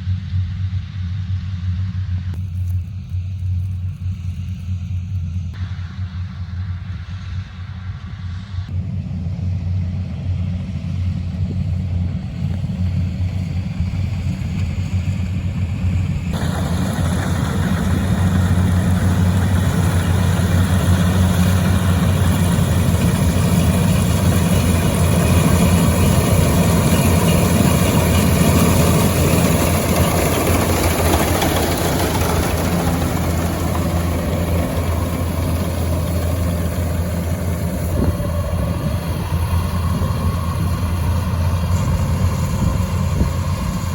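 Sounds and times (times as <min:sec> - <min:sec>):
engine humming: 0:00.0 - 0:43.9.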